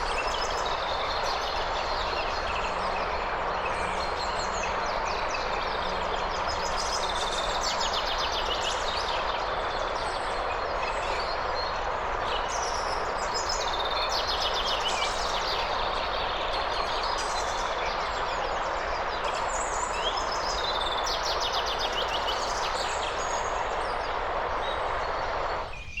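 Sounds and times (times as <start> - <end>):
flowing water rushing: 0.0 - 25.8.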